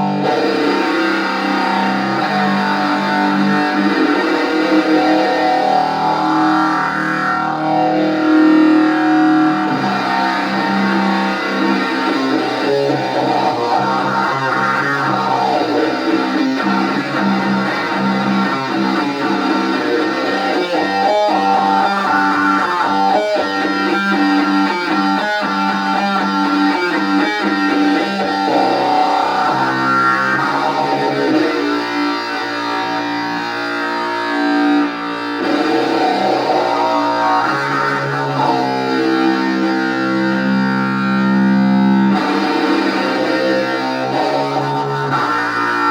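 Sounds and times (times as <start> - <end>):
distorted electric guitar riffs: 0.0 - 45.9.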